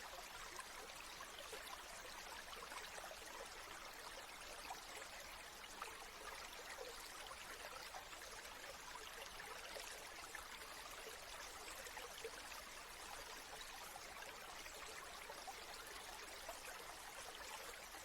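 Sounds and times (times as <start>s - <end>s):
small stream trickling: 0.0s - 18.0s.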